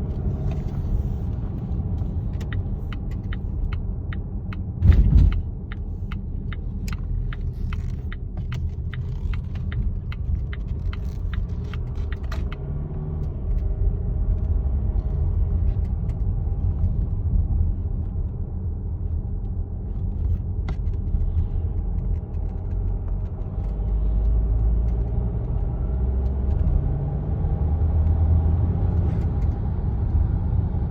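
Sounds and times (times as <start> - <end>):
car engine low rumble: 0.0 - 30.9.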